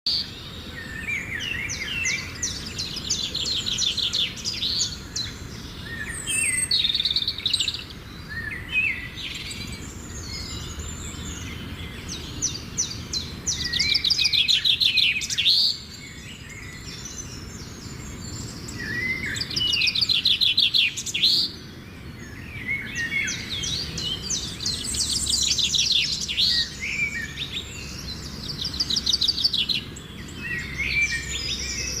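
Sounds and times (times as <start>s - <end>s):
low background noise: 0.1s - 32.0s.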